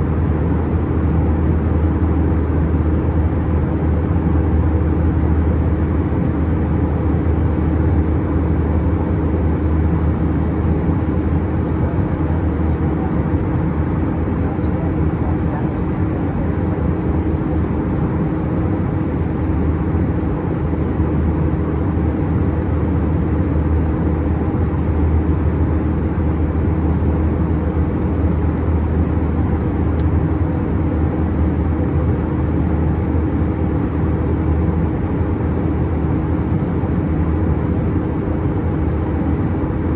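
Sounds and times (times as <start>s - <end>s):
airflow rushing in plane cabin: 0.0s - 39.9s
low engine hum: 0.0s - 39.9s.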